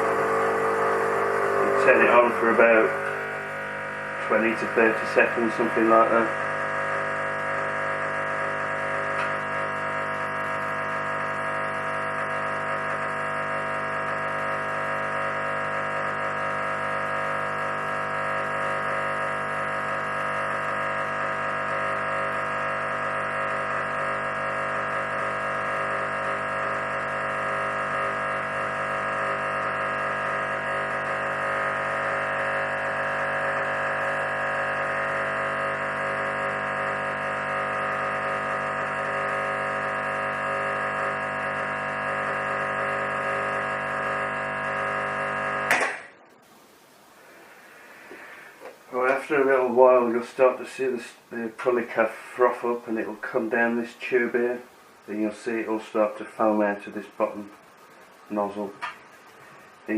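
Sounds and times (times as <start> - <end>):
espresso machine pump humming: 0.0 - 46.3, 47.2 - 59.9.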